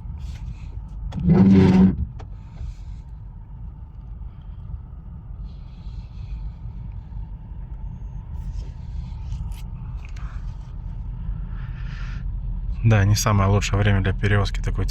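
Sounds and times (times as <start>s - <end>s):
car interior rumble: 0.0s - 14.9s.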